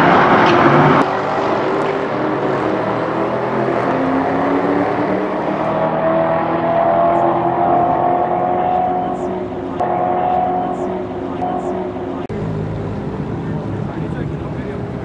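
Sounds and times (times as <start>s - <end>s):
cars accelerating hard: 0.0s - 15.0s.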